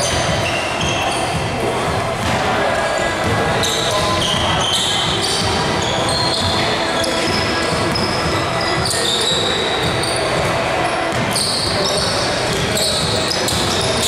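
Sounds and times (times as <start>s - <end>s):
basketball bouncing on court: 0.0s - 14.0s
voices echoing in hall: 0.0s - 14.0s.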